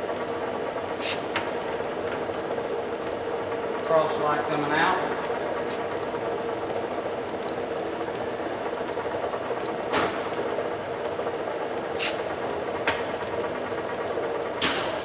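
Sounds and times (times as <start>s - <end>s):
lathe gear hum: 0.0s - 15.0s.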